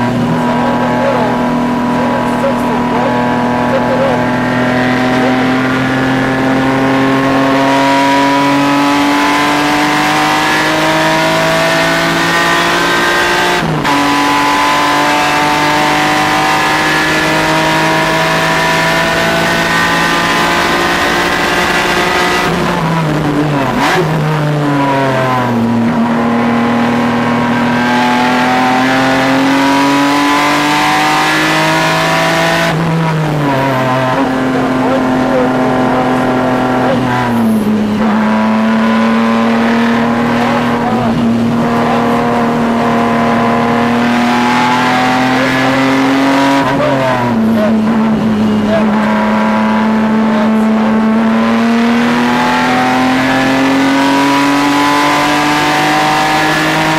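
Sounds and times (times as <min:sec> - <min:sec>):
race car downshifting: 0:00.0 - 0:56.9
race car engine accelerating: 0:00.0 - 0:56.9.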